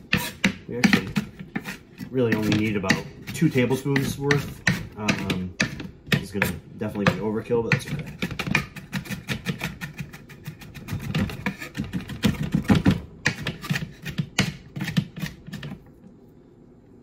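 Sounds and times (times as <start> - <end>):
knife chopping on cutting board: 0.1 - 15.8.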